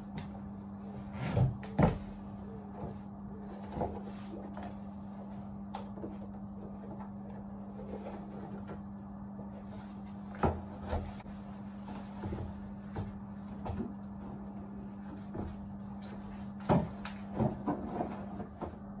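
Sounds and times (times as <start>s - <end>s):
movement and handling noises: 0.0s - 19.0s
steady low hum: 0.0s - 19.0s.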